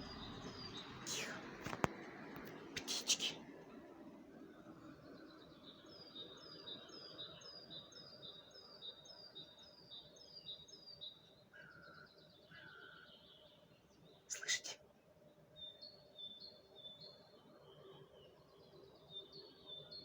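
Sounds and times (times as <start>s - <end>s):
small songbird singing: 0.0s - 1.8s, 4.5s - 20.0s.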